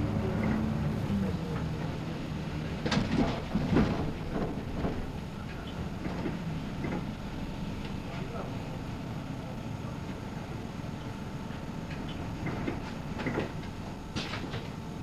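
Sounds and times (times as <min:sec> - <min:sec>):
bus body rattling: 0:00.0 - 0:08.8, 0:11.1 - 0:15.0
bus engine hum: 0:00.0 - 0:15.0.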